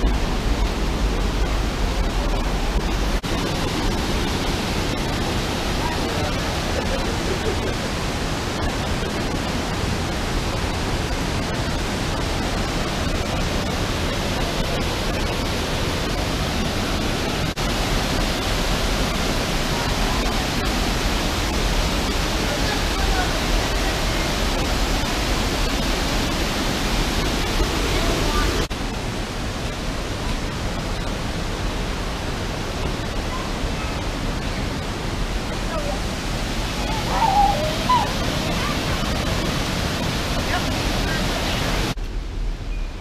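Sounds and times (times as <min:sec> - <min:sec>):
water rushing over rocks: 0:00.0 - 0:42.6.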